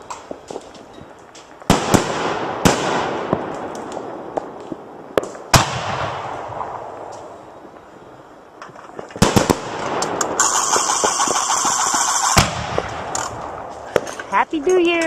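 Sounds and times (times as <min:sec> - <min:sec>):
fireworks bursting with rolling echo: 0:00.0 - 0:14.6.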